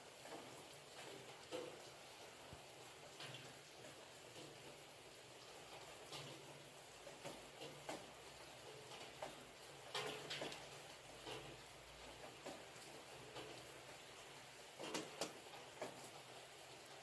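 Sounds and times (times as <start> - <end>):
faint rain hiss: 0.0 - 17.0
raindrops pattering: 0.0 - 17.0.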